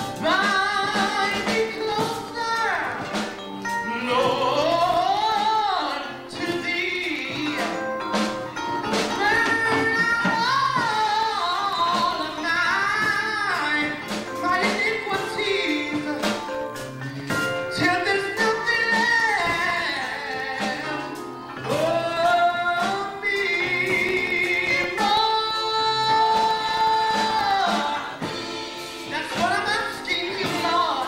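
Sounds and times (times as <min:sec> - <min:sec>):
instrumental accompaniment: 0:00.0 - 0:31.0
man singing gospel: 0:00.0 - 0:31.0.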